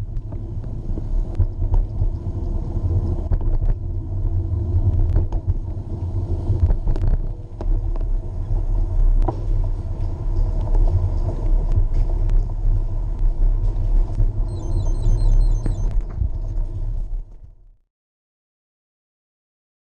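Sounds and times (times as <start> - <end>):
wheels rolling over pavement: 0.0 - 17.8.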